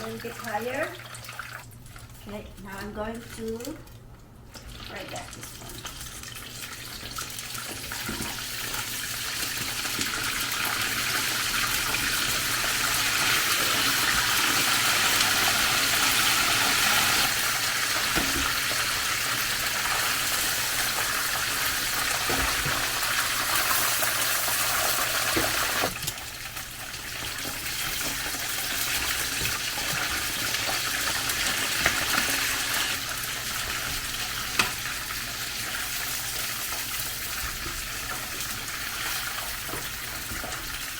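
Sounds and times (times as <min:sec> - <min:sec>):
chicken sizzling in hot oil: 0:06.0 - 0:40.9.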